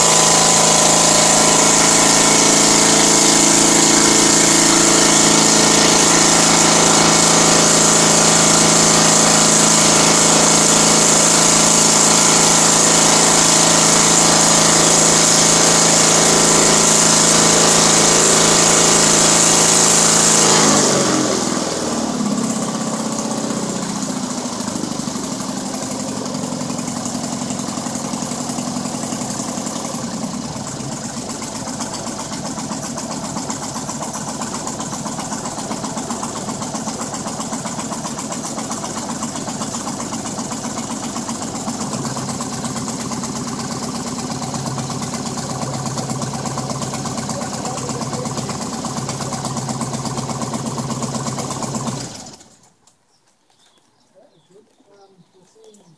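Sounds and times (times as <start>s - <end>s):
ultralight propeller engine: 0.0s - 52.7s.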